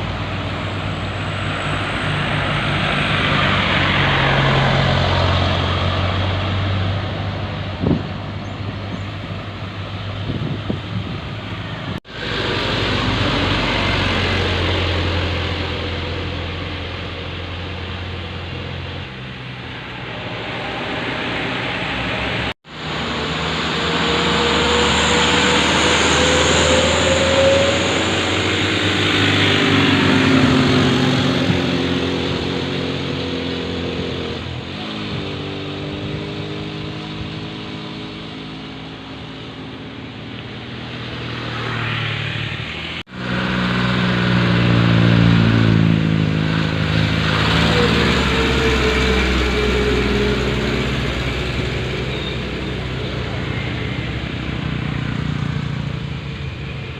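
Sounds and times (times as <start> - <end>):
diesel trucks labouring uphill: 0.0 - 56.9.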